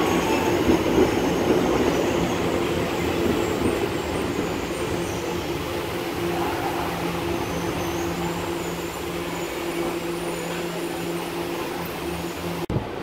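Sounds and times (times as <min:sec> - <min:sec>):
station noise: 0:00.0 - 0:12.7
train humming: 0:00.0 - 0:13.0.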